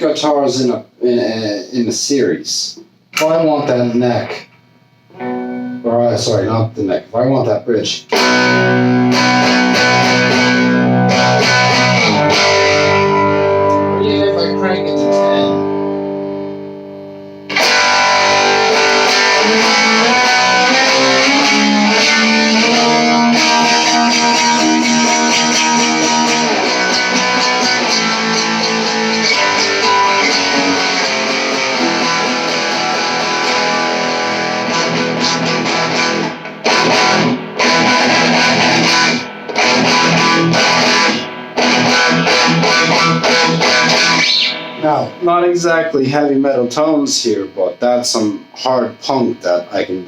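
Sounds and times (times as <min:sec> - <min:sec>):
overdriven electric guitar: 0:03.1 - 0:05.9, 0:08.0 - 0:45.9.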